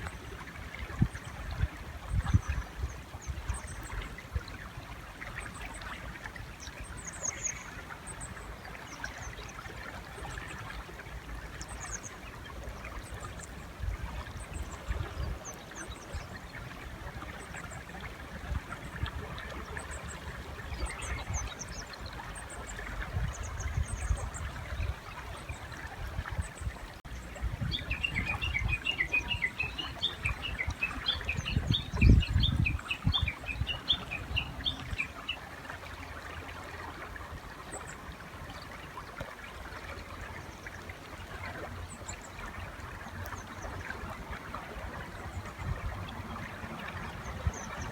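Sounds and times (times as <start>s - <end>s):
river flowing: 3.0s - 31.8s, 32.7s - 47.9s.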